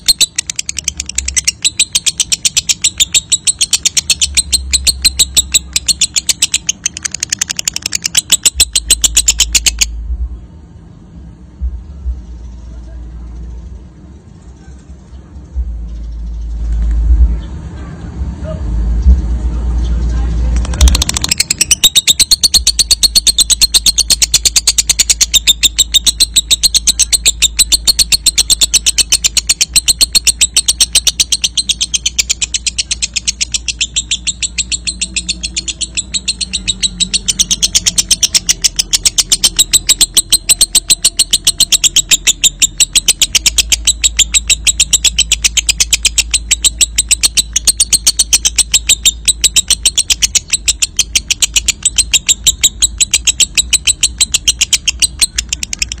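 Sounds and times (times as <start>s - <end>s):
bird chattering trill: 0.0s - 10.0s, 20.6s - 56.0s.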